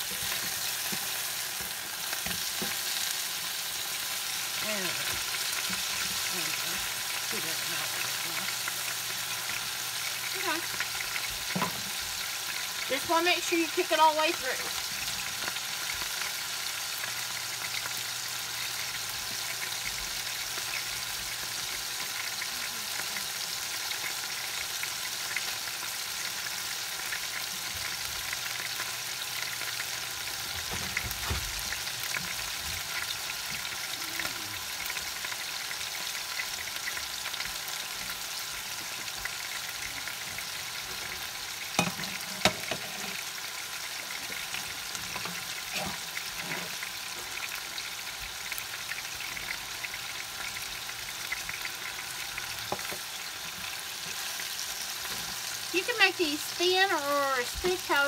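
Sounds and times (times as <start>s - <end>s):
burger patties sizzling: 0.0s - 58.0s.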